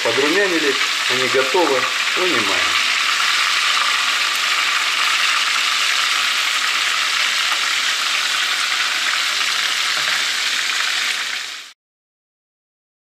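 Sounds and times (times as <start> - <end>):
oil sizzling: 0.0 - 11.8.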